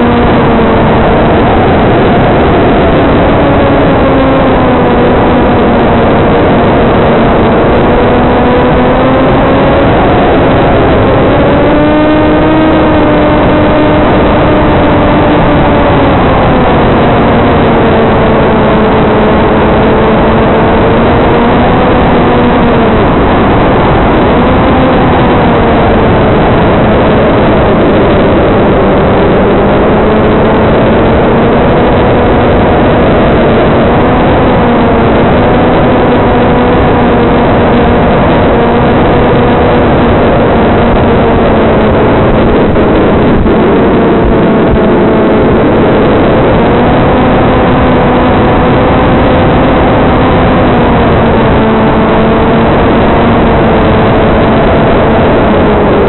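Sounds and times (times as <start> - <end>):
electric motor and propeller buzzing: 0.0 - 56.0
wind rush: 0.0 - 56.0.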